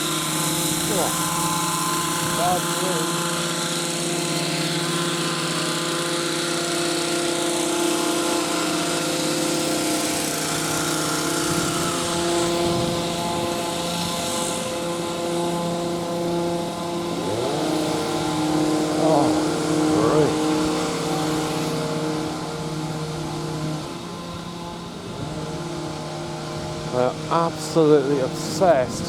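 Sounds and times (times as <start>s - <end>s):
chainsaws running at high revs: 0.0s - 29.0s.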